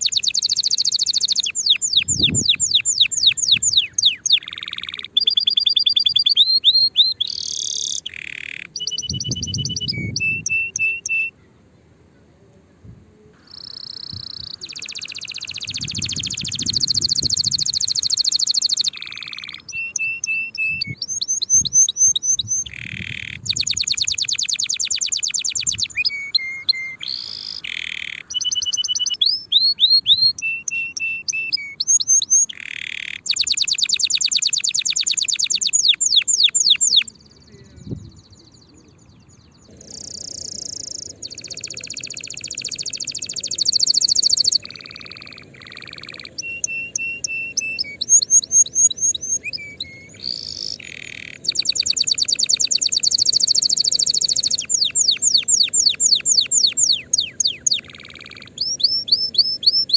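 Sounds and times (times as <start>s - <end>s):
canary singing trills: 0.0s - 11.6s, 13.4s - 59.9s.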